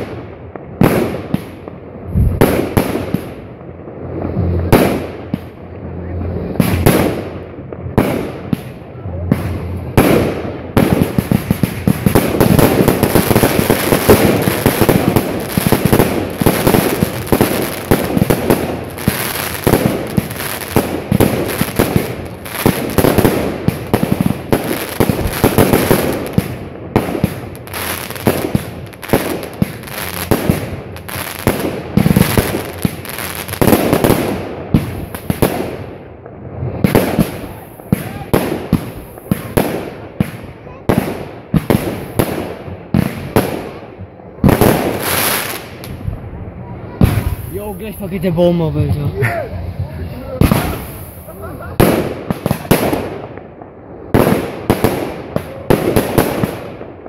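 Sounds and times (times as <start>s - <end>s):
fireworks bangs and pops: 0.0s - 5.7s, 6.4s - 46.3s, 46.9s - 57.0s.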